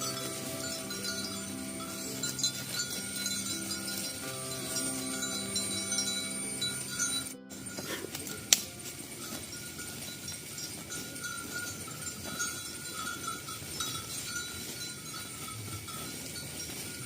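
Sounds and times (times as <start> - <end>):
bell ringing: 0.0 - 17.0
herd of cattle moving: 0.0 - 17.0.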